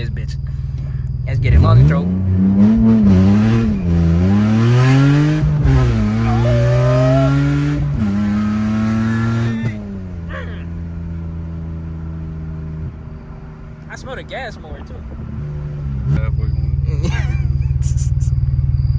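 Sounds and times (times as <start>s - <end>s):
car engine accelerating hard: 1.3s - 18.9s.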